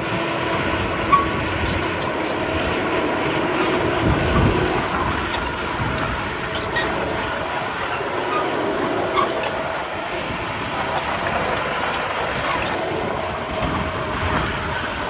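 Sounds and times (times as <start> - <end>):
bulldozer diesel engine running: 0.0 - 15.0
steel tracks clanking and squeaking: 0.0 - 15.0.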